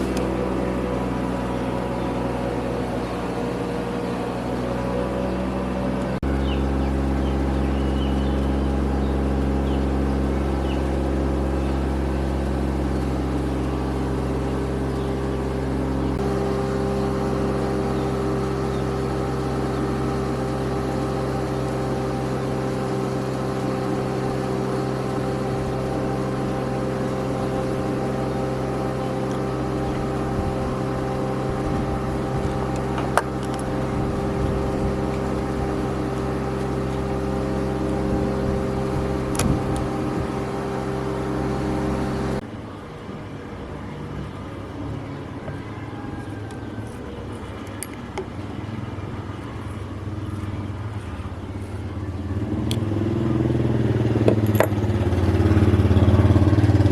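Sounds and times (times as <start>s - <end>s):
motor running steadily: 0.0s - 56.9s.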